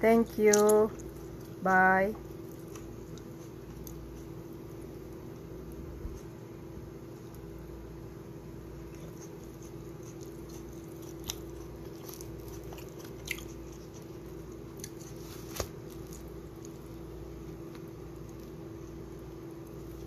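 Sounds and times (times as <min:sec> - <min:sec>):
low hum with held tone: 0:00.0 - 0:20.0.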